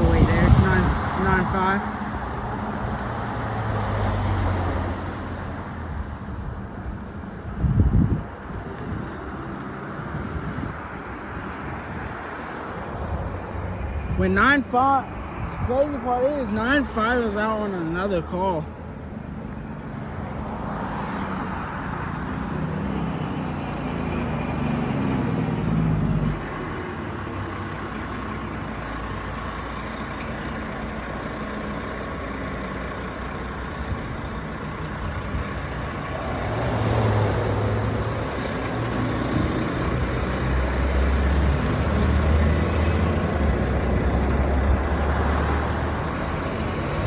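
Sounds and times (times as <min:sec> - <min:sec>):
road traffic noise: 0:00.0 - 0:47.0
truck engine rumbling: 0:00.0 - 0:47.0
vehicle approaching: 0:00.0 - 0:47.0.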